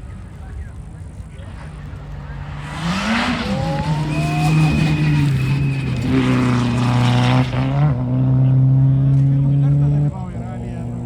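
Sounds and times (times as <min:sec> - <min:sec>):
rally car engine revving: 0:00.8 - 0:11.0.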